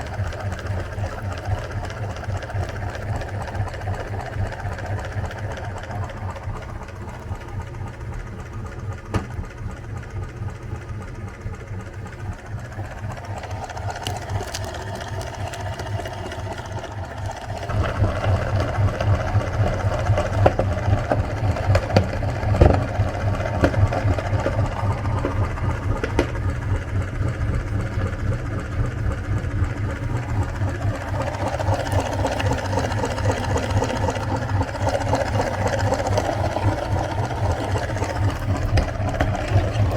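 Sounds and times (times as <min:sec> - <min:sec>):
electric meat grinder running: 0:00.0 - 0:08.0, 0:12.5 - 0:39.9.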